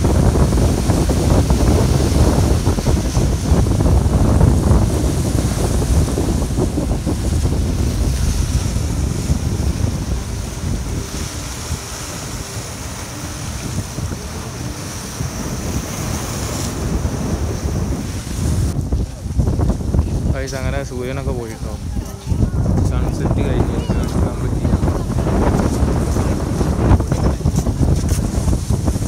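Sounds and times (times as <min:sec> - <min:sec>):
sea waves breaking over rocks: 0:00.0 - 0:29.0
wind buffeting microphone: 0:00.0 - 0:29.0.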